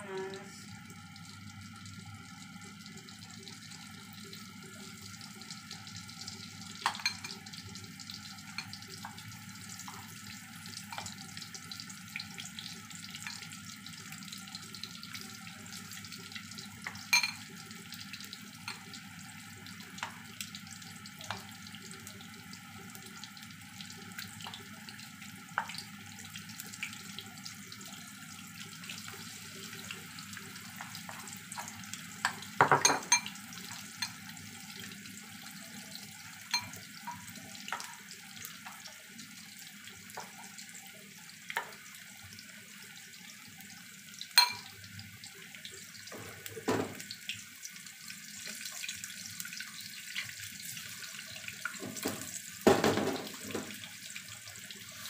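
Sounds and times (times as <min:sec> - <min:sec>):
frying oil sizzling: 0:00.0 - 0:55.0.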